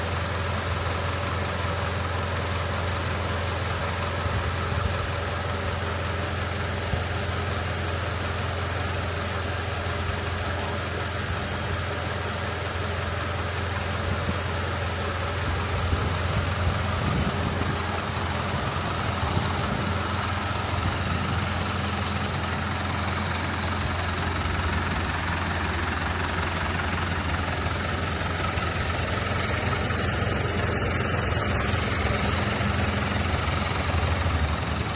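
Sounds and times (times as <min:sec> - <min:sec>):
vehicle engine idling: 0:00.0 - 0:34.9.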